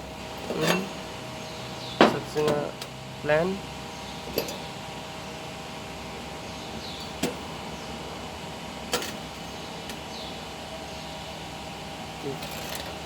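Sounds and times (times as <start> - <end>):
machine electrical hum: 0.0 - 13.0.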